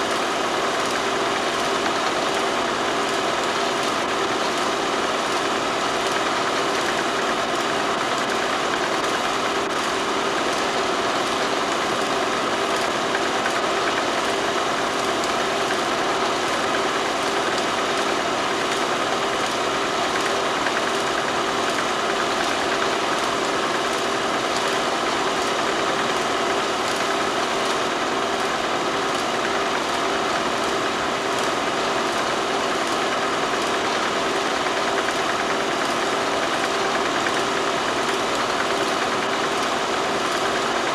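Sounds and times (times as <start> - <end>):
mechanical running hum: 0.0 - 40.9.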